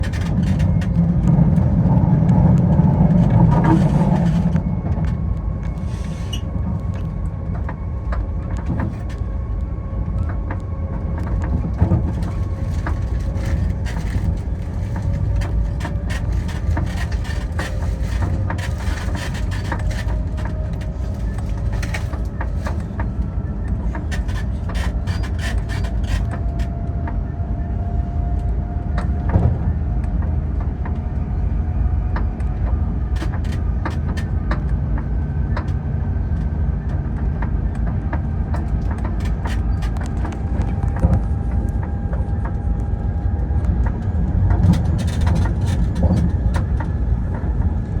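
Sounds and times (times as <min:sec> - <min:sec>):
train rumble on rails: 0:00.0 - 0:48.0.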